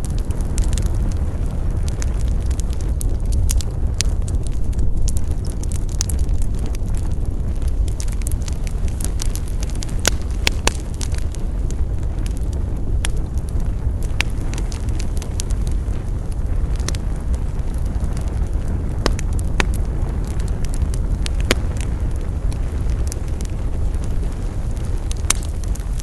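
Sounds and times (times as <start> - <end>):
burning logs crackling and popping: 0.0 - 26.0
low rumble of campfire: 0.0 - 26.0.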